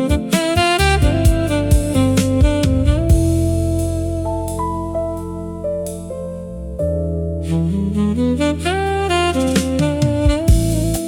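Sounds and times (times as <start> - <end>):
saxophone melody: 0.0 - 11.0.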